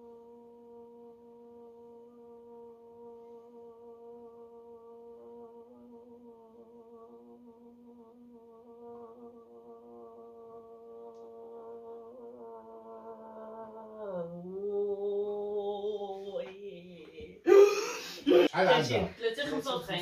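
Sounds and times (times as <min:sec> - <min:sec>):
woman humming a long note: 0:00.0 - 0:18.5.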